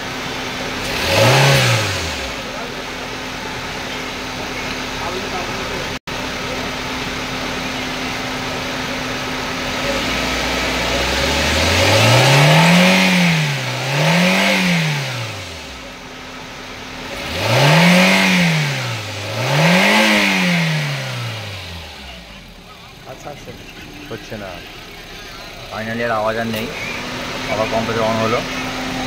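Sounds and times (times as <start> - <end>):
car engine idling: 0.0 - 29.0
engine revving: 0.0 - 29.0.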